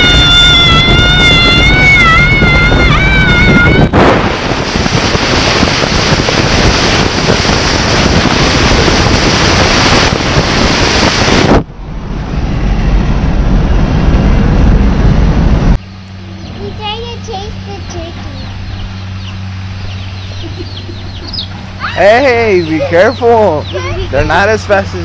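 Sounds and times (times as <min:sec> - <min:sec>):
car rumble on road: 0:00.0 - 0:24.7
wind rushing over microphone: 0:00.0 - 0:25.0.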